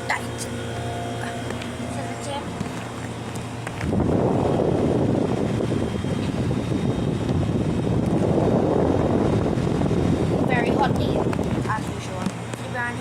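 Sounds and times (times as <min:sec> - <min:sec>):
air conditioner fan rushing: 0:00.0 - 0:13.0.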